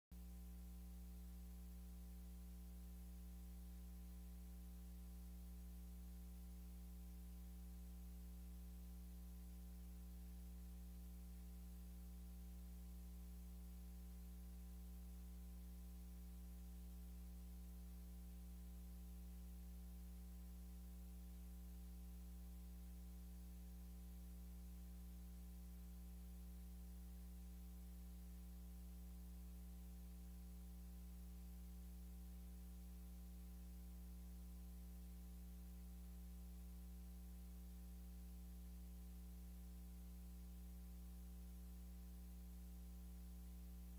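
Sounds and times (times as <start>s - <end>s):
faint electrical hum with hiss: 0.1s - 43.9s.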